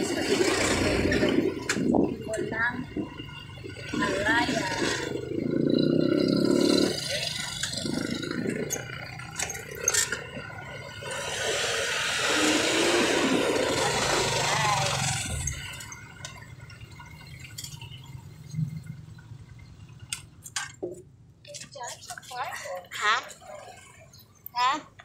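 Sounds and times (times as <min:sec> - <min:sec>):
wind and road noise: 0:00.0 - 0:25.0.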